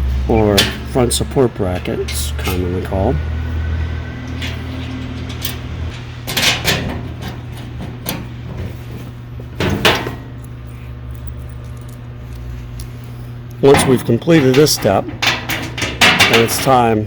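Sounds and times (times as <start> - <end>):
metal parts clanking: 0.3 - 3.0, 4.3 - 9.0, 9.6 - 17.0.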